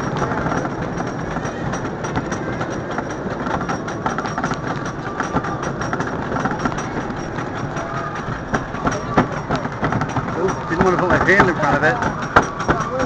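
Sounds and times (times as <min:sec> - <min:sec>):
chain and track clicking: 0:00.0 - 0:13.0
lift machinery rumbling: 0:00.0 - 0:13.0.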